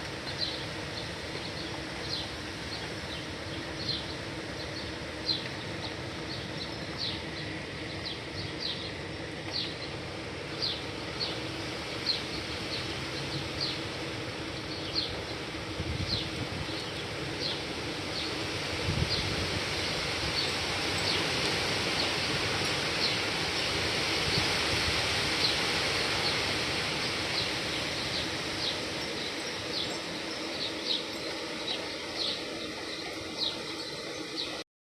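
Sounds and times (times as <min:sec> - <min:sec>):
steady rain: 0:00.0 - 0:34.6.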